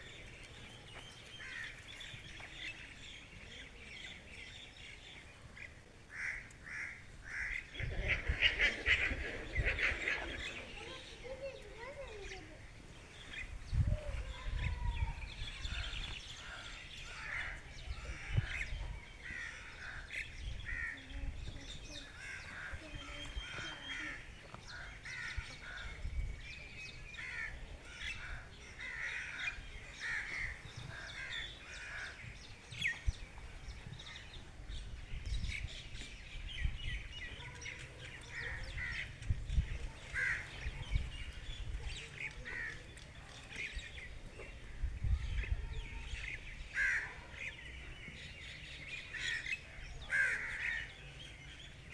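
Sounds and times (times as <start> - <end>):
birds chirping and calling: 0.0 - 51.9.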